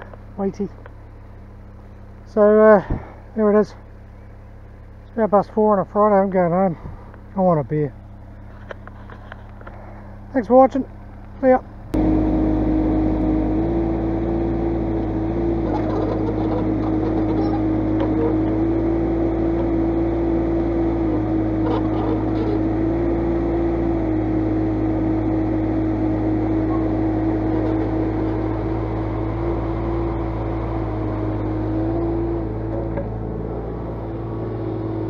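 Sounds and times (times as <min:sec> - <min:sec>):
excavator engine and hydraulics: 0:06.5 - 0:35.0.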